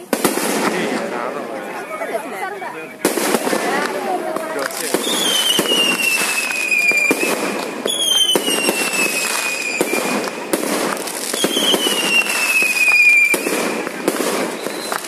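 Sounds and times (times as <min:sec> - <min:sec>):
fireworks crackling and popping: 0:00.0 - 0:15.0
whistling fireworks: 0:00.0 - 0:15.0.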